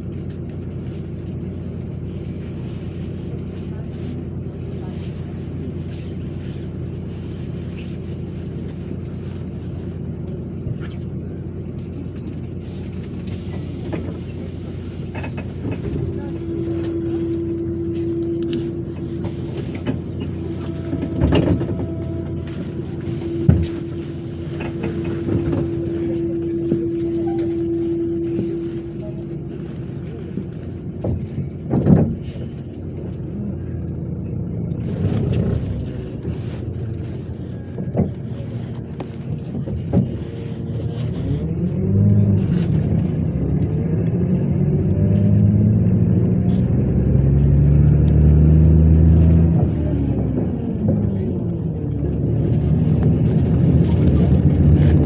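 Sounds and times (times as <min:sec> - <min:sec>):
bus diesel engine idling and revving: 0:00.0 - 0:55.0.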